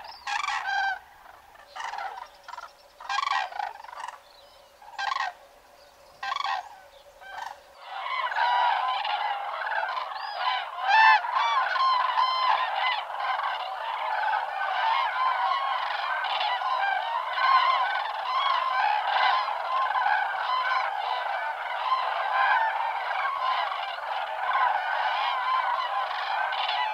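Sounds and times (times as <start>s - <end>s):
cranes trumpeting calls: 0.0s - 26.9s
flock of cranes calling: 0.0s - 26.9s.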